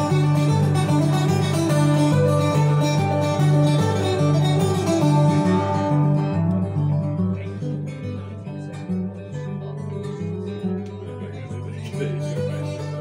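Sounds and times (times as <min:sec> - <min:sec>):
guitar plucked notes: 0:00.0 - 0:13.0.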